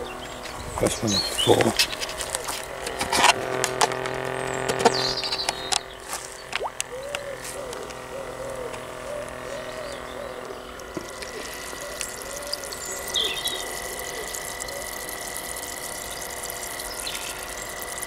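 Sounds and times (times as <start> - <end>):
air pump buzzing: 0.0 - 18.0.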